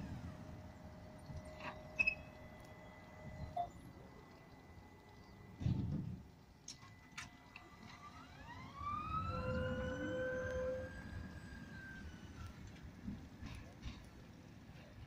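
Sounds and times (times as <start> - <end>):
tram electric whine: 0.0 - 15.0
wheels rumbling on rails: 0.0 - 15.0.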